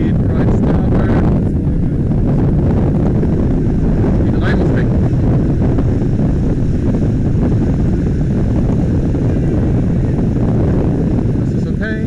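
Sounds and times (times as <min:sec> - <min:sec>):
boat engine running: 0:00.0 - 0:12.0
wind noise on microphone: 0:00.0 - 0:12.0.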